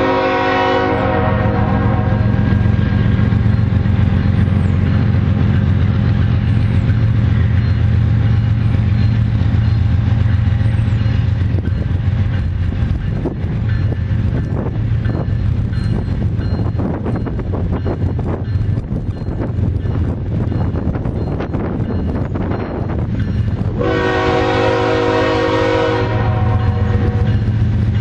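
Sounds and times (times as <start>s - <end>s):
diesel locomotive rumble: 0.0s - 28.0s.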